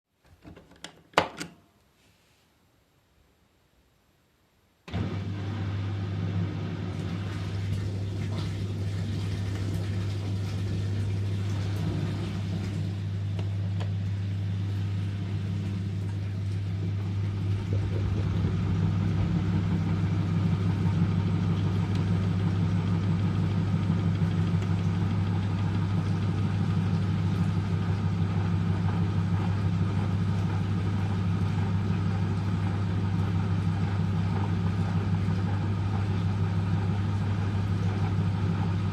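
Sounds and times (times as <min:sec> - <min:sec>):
washing machine running: 0:04.9 - 0:38.9.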